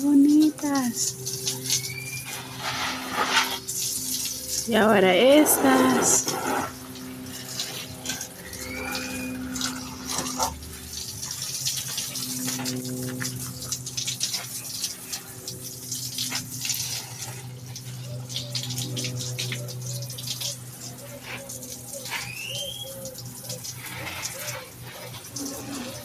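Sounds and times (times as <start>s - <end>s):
water drips: 0.0s - 5.4s, 6.7s - 26.0s
steady low hum: 0.0s - 26.0s
water running and splashing: 0.0s - 26.0s.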